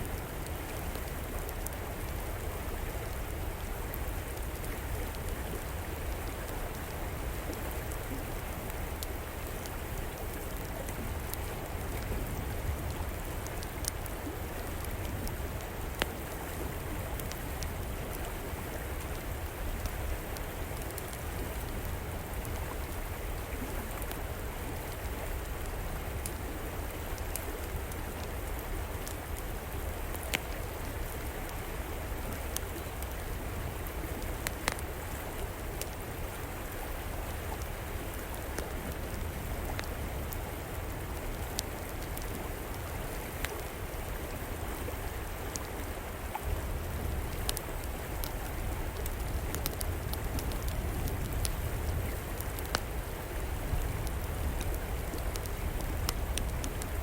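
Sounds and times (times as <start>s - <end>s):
fire crackling and popping: 0.0s - 44.4s, 45.5s - 57.0s.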